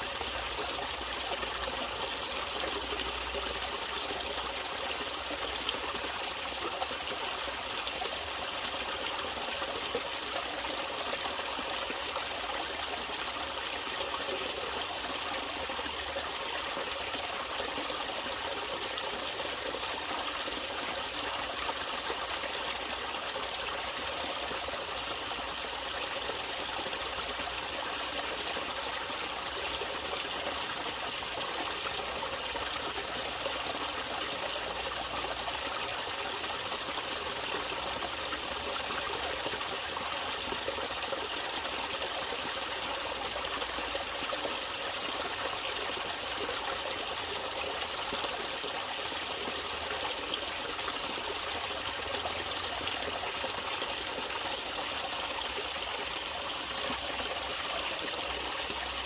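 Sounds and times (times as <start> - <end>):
stream water splashing over rocks: 0.0 - 59.0.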